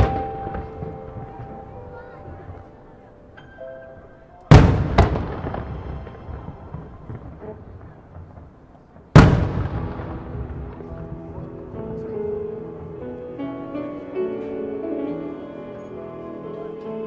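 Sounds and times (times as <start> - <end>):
fireworks exploding with echoing bangs: 0.0 - 14.6.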